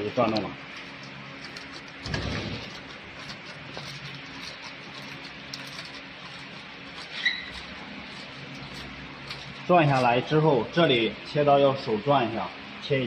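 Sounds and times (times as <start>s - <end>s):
labeling machine humming: 0.0s - 13.0s.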